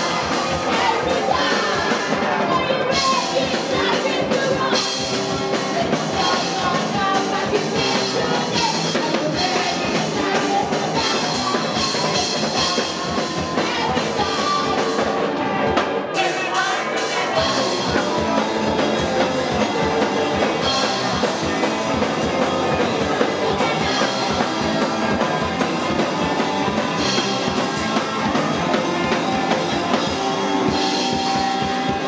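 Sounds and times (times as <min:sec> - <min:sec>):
upbeat music with drum beat: 0:00.0 - 0:32.0.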